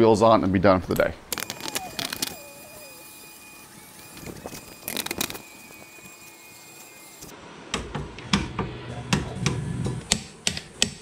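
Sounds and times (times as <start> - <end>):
faint garage room noise: 0.0 - 11.0.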